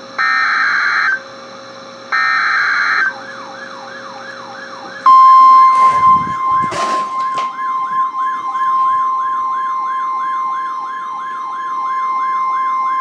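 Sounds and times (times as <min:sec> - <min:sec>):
warbling siren: 0:00.2 - 0:01.3, 0:02.1 - 0:13.0
weather radio alarm beep: 0:02.2 - 0:13.0.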